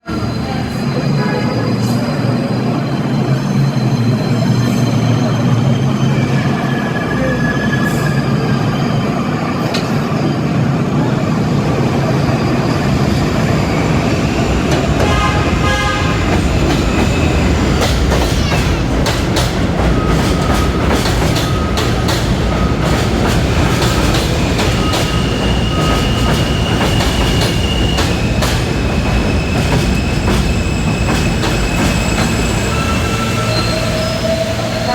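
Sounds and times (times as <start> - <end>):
subway train rail rumble: 0.0 - 34.9
high wheel squeals: 0.1 - 34.9.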